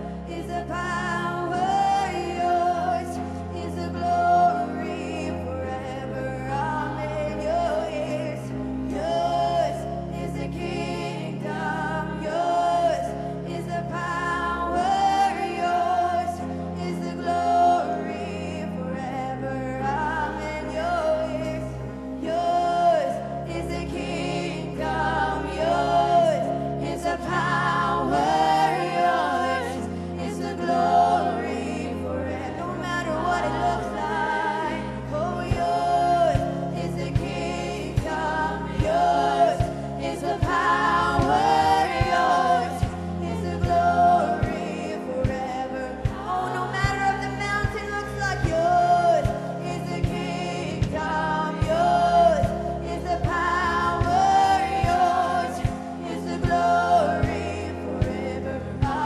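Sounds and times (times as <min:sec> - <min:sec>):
keyboard: 0:00.0 - 0:59.0
sustained low bass chords: 0:00.0 - 0:59.0
women singing slow song: 0:00.0 - 0:59.0.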